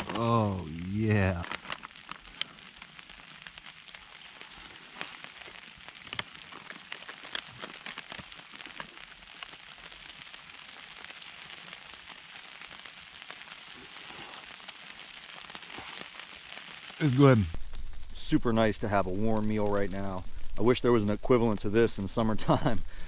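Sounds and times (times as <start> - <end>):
snow pattering on a tarp: 0.0 - 22.8.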